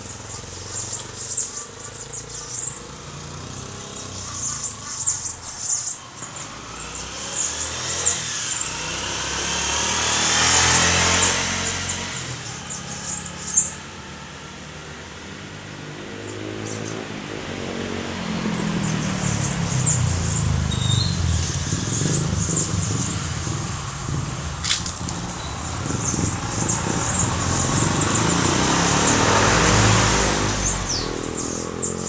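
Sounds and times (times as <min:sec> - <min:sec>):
bird chirping: 0:00.0 - 0:09.0, 0:10.4 - 0:14.0, 0:18.4 - 0:32.0
cars passing: 0:00.0 - 0:32.0.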